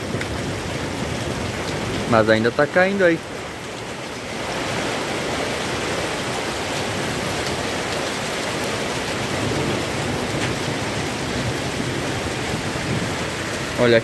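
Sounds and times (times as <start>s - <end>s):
hailstones ticking: 0.0s - 4.4s, 6.2s - 14.0s
heavy rain pouring: 0.0s - 14.0s.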